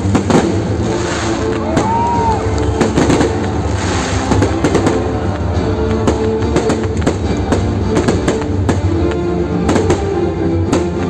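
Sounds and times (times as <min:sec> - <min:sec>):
fireworks banging: 0:00.0 - 0:11.0
music with held notes: 0:00.0 - 0:11.0.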